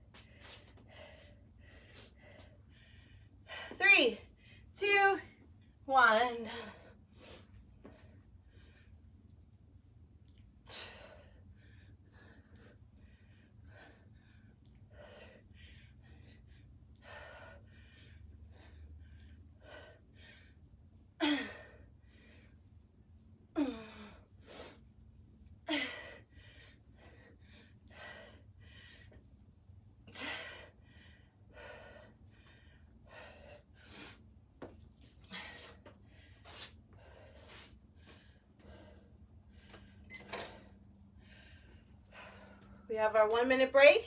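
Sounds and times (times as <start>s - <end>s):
woman breathing hard: 0.0s - 4.7s, 6.4s - 9.4s, 10.6s - 22.6s, 23.5s - 24.9s, 25.6s - 34.4s, 35.0s - 42.9s.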